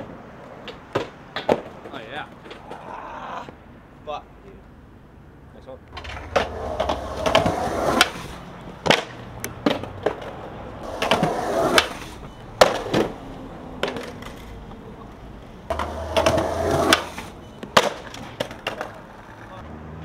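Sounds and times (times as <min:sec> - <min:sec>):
skateboard clacking on pavement: 0:00.0 - 0:02.8, 0:05.9 - 0:19.6
skateboard wheels rolling on concrete: 0:00.0 - 0:04.8, 0:05.6 - 0:20.0.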